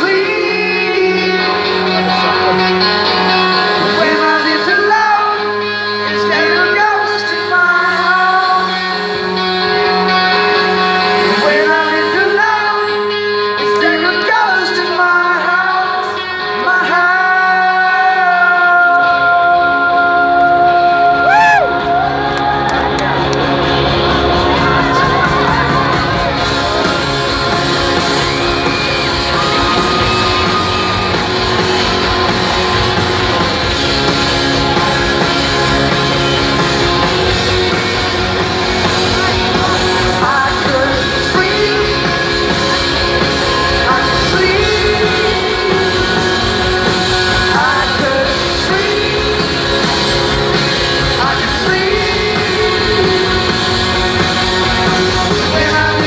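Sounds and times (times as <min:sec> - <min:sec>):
live rock band playing: 0:00.0 - 0:56.0
person singing: 0:00.0 - 0:56.0.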